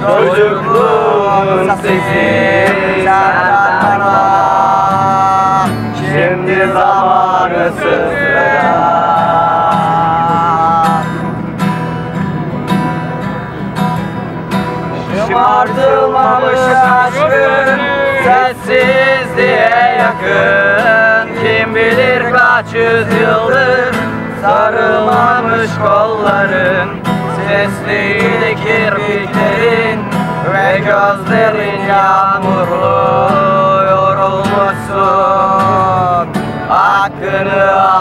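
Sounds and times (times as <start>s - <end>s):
man singing: 0.0s - 11.2s, 15.0s - 38.0s
strummed acoustic guitar: 0.0s - 38.0s.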